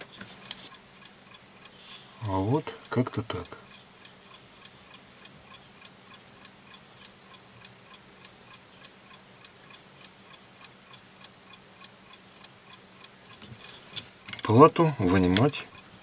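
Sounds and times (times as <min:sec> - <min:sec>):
faint even ticking: 0:00.7 - 0:16.0.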